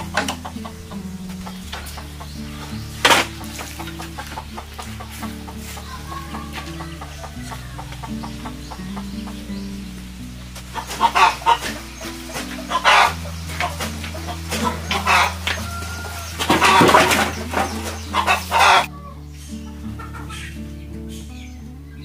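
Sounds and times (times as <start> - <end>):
chickens clucking: 0.0 - 21.5
soft background music: 0.0 - 22.0.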